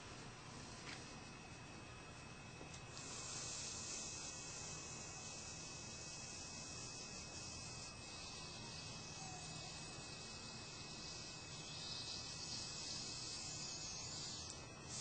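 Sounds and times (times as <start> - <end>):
steady hiss: 0.0 - 15.0
high-pitched whine: 1.1 - 15.0.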